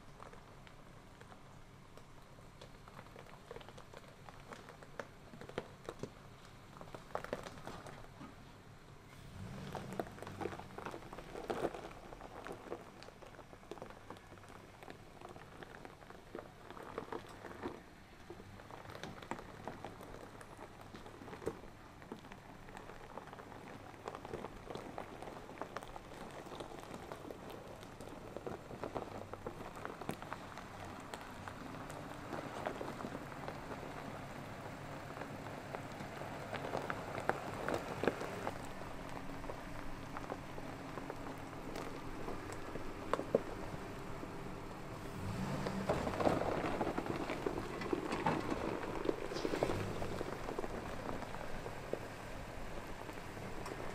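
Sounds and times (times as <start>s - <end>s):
tyres crunching on rocks: 0.0s - 8.6s, 9.2s - 53.9s
low engine hum: 0.0s - 53.9s.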